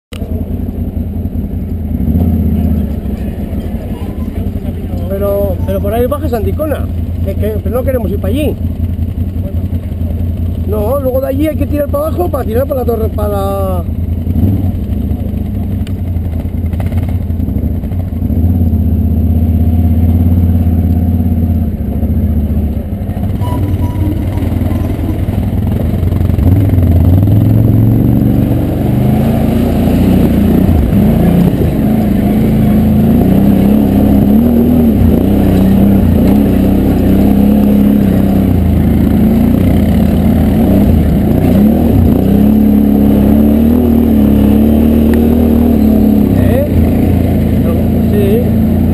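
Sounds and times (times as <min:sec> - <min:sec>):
atv engine revving: 0:00.1 - 0:48.9.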